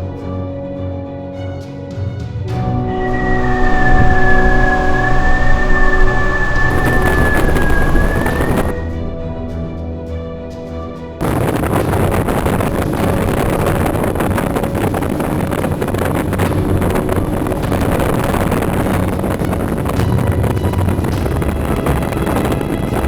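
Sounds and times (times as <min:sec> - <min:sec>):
strong wind on microphone: 0:02.5 - 0:23.0.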